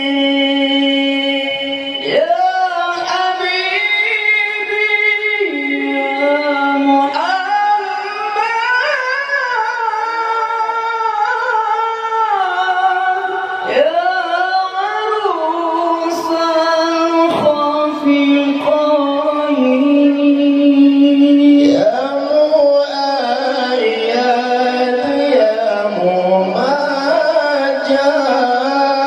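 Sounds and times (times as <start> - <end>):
man singing over loudspeakers: 0.0 - 29.0.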